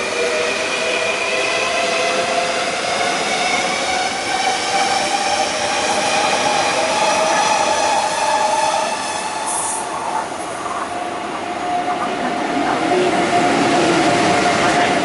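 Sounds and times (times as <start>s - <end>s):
electric locomotive passing: 0.0s - 15.0s
electric train whine: 0.0s - 15.0s.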